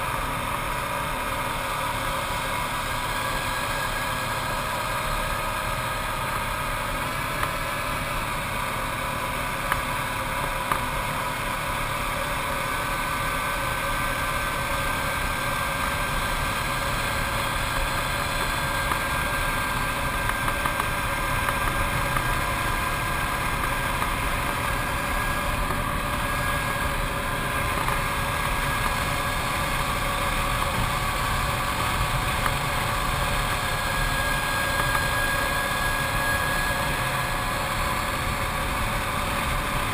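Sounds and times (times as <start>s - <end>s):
atv engine running: 0.0s - 39.9s
faint whine: 0.0s - 39.9s.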